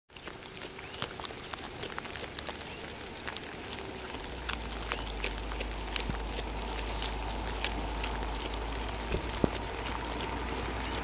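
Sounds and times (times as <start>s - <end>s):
koala chewing leaves: 0.1s - 11.0s.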